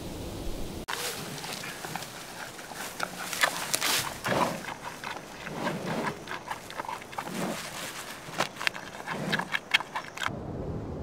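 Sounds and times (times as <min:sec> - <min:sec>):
leaves and twigs rustling: 0:00.5 - 0:10.3
animal chewing: 0:00.9 - 0:10.3.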